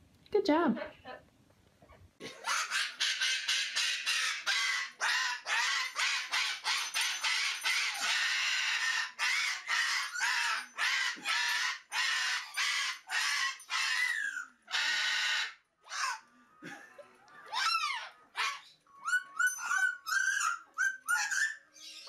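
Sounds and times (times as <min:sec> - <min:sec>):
parrot screeching: 0:02.3 - 0:16.3, 0:17.5 - 0:22.0.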